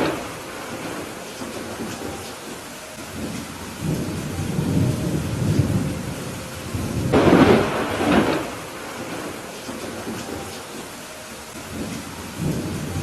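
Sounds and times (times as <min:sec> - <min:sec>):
rolling thunder: 0:00.0 - 0:13.0
steady rain: 0:00.0 - 0:13.0.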